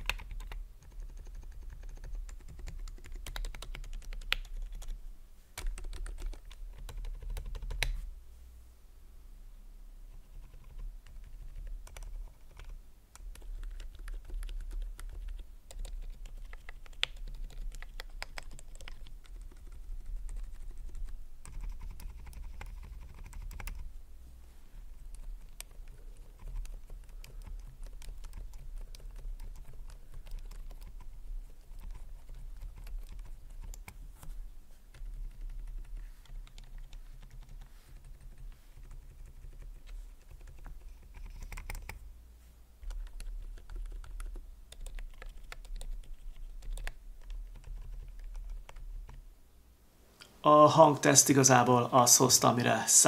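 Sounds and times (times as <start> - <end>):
keyboard typing: 0.0 - 5.0, 5.6 - 8.0, 10.2 - 23.9, 24.9 - 34.1, 34.9 - 42.0, 42.8 - 49.2.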